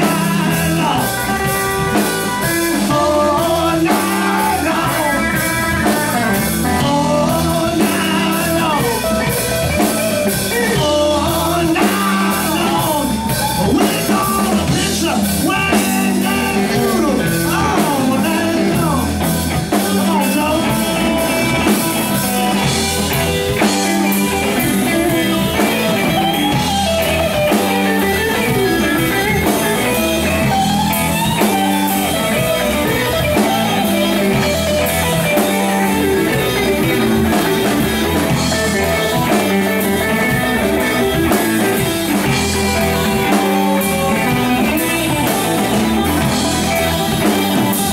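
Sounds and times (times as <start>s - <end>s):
blues-rock band playing: 0.0s - 47.9s
drum kit: 0.0s - 47.9s
electric guitars bending notes: 0.0s - 47.9s.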